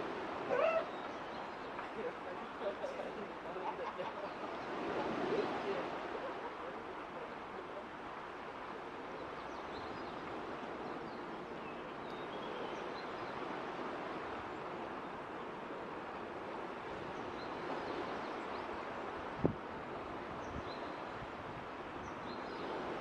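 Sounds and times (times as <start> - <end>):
rushing outdoor background noise: 0.0 - 23.0.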